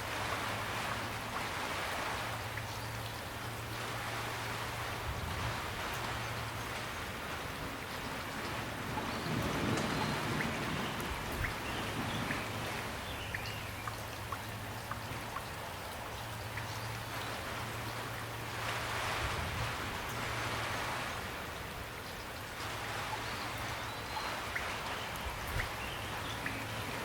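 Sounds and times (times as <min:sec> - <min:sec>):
gentle rain hissing: 0:00.0 - 0:27.0
raindrops plinking: 0:00.0 - 0:27.0.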